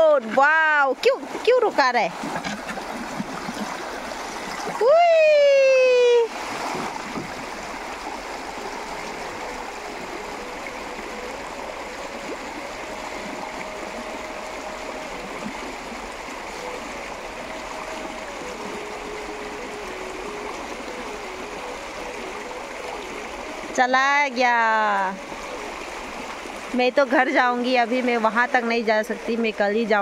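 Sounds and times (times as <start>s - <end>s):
river water rushing over stones: 0.0s - 30.0s.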